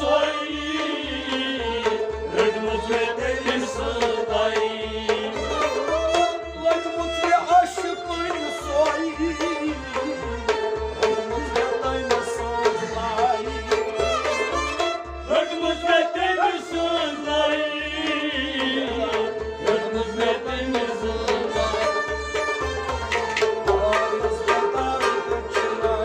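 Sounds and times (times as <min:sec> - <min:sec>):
person singing: 0:00.0 - 0:14.0, 0:15.3 - 0:22.5, 0:23.4 - 0:26.0
hand drum beat: 0:00.0 - 0:26.0
harmonium melody: 0:00.0 - 0:26.0.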